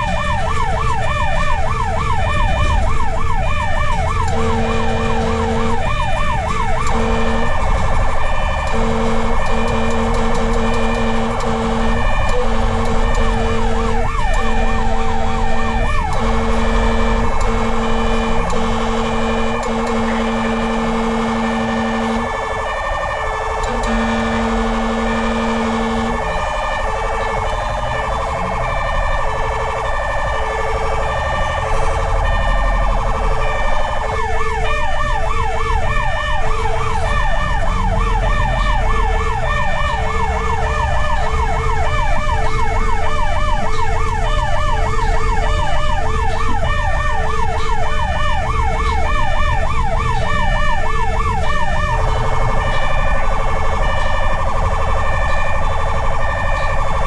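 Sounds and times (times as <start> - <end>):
wailing and yelping siren: 0.0 - 57.0.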